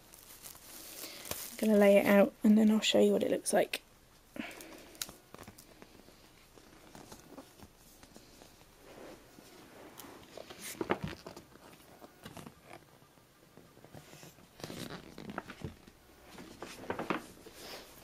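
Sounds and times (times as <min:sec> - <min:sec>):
map rustling in plastic wrapping: 0:00.0 - 0:02.3, 0:04.6 - 0:12.9, 0:13.7 - 0:18.0.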